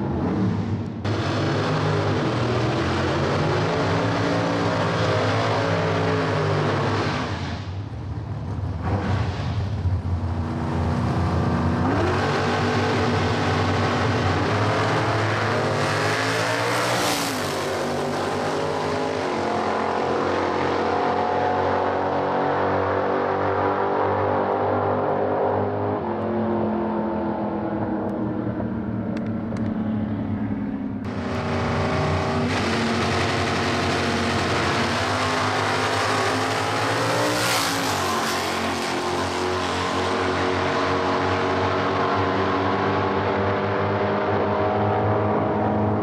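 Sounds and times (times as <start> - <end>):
drag car accelerating hard: 0.0 - 28.7, 31.0 - 46.0
drag car engines revving: 0.0 - 46.0.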